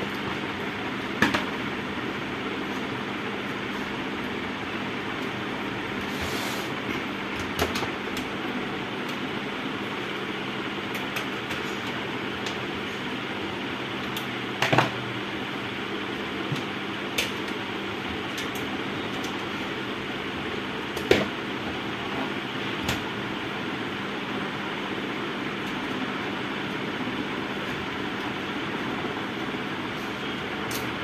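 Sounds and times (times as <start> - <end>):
fan hum: 0.0 - 31.0.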